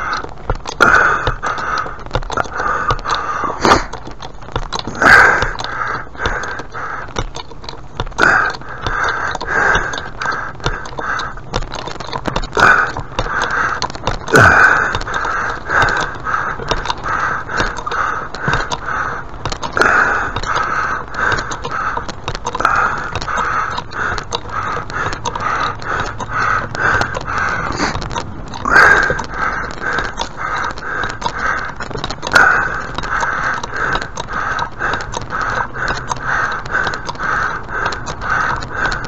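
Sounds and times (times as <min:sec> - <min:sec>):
crows cawing: 0:04.9 - 0:07.2, 0:08.2 - 0:28.0, 0:28.6 - 0:39.0.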